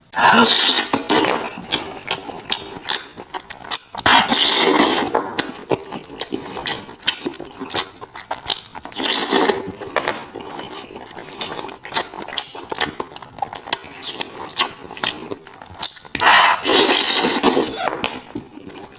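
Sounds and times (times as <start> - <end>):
person chewing with wet smacks: 0.4 - 18.9.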